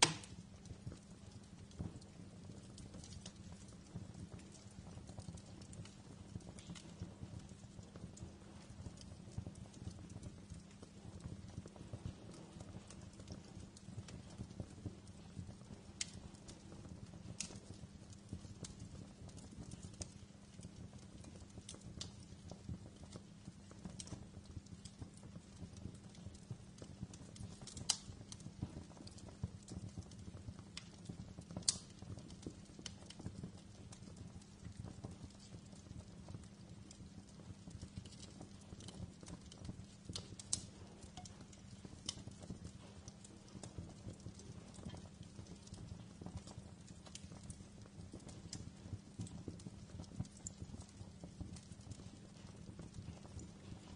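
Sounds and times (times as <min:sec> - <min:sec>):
fireplace fire crackling: 0:00.0 - 0:53.9.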